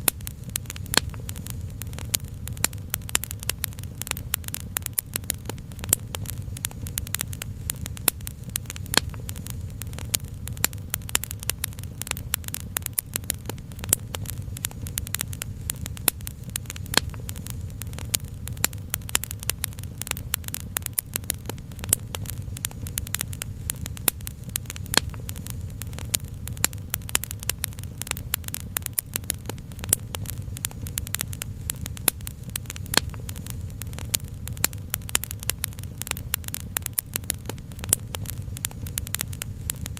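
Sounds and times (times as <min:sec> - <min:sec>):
steady low rumble: 0:00.0 - 0:39.9
wood fire crackling: 0:00.0 - 0:39.9.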